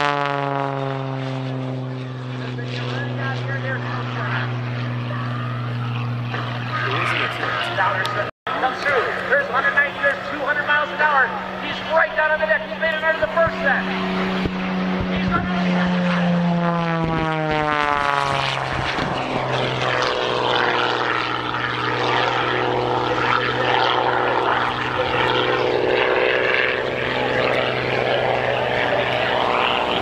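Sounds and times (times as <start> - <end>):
propeller plane engine passing: 0.0 - 30.0.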